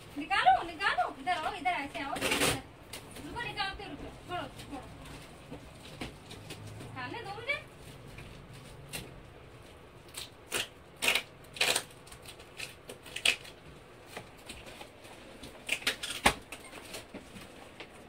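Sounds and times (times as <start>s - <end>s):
rustles of objects handled: 0.0s - 10.1s, 12.0s - 18.0s.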